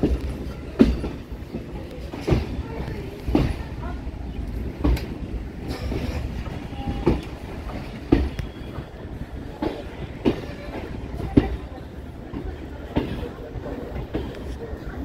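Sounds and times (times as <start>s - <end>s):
train rumble: 0.0s - 15.0s
train wheels clacking: 0.0s - 15.0s.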